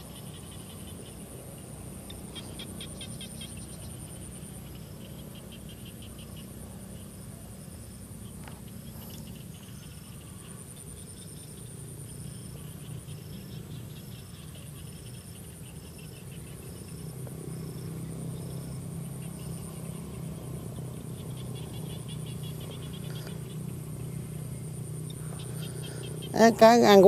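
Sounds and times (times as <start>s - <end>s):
insect trilling: 0.0s - 7.2s, 8.2s - 27.0s
insect chirping: 0.0s - 27.0s
insects droning: 0.0s - 27.0s
low steady hum: 0.0s - 27.0s.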